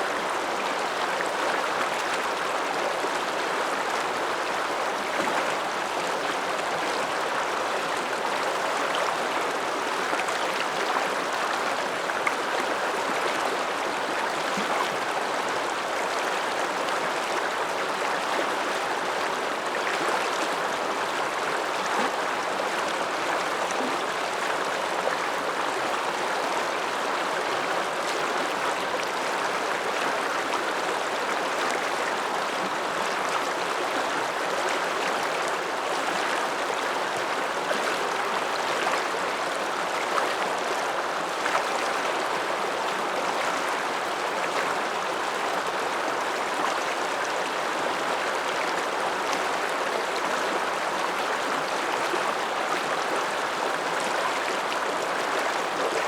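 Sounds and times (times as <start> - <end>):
mountain river rushing: 0.0 - 56.0.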